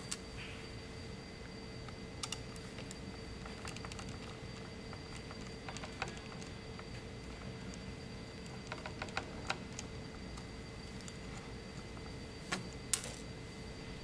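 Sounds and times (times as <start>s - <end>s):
steady hum with high whine: 0.0s - 14.0s.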